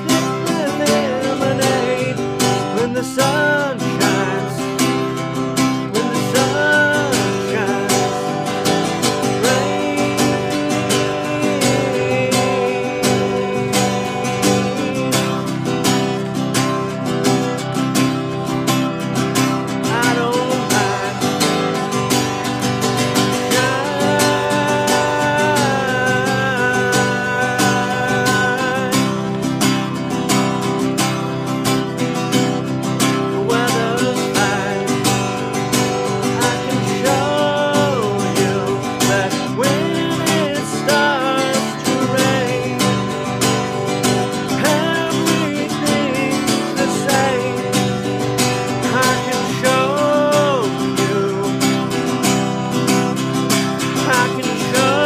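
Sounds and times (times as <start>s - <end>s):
man singing: 0.0s - 55.0s
strummed acoustic guitar: 0.0s - 55.0s.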